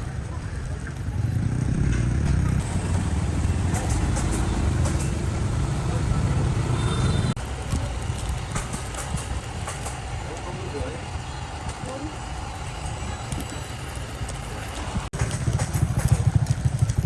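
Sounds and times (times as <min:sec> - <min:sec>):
motorbike engine rumble: 0:00.0 - 0:17.0.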